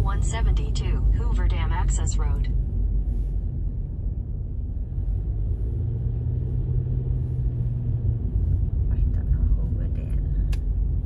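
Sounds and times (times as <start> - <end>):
car engine and road noise: 0.0 - 11.0
low steady hum: 0.0 - 11.0.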